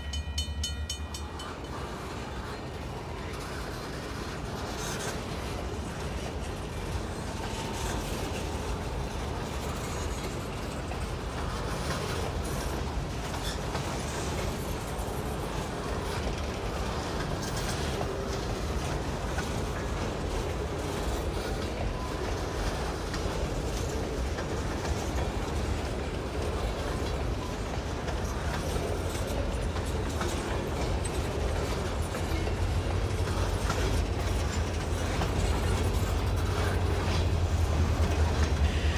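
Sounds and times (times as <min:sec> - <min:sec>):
freight train rumble: 0:00.0 - 0:38.9
train wheels clacking over rail joints: 0:00.0 - 0:38.9.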